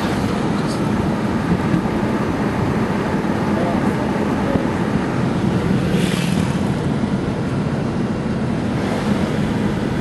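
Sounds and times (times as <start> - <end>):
car road and wind noise: 0.0 - 10.0.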